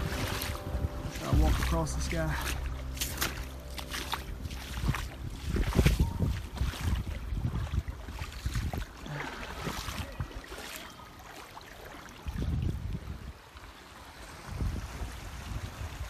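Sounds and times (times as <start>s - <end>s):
wind rumble on microphone: 0.0s - 10.4s, 12.2s - 13.6s, 14.2s - 16.0s
creek water rushing over gravel: 0.0s - 16.0s.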